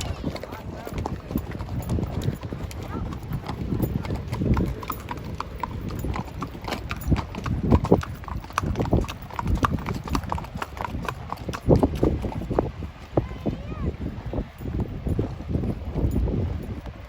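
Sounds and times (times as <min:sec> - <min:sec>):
hooves clip-clopping on hard ground: 0:00.0 - 0:17.0.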